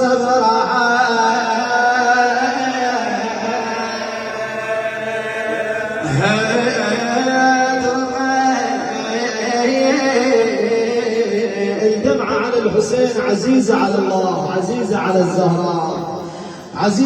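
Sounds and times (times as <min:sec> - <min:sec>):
man chanting a lament: 0:00.0 - 0:17.0.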